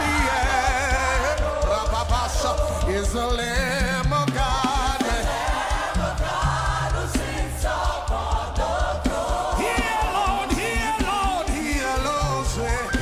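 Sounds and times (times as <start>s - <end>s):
band with bass and drums: 0.0s - 13.0s
lead singer and choir singing: 0.0s - 13.0s.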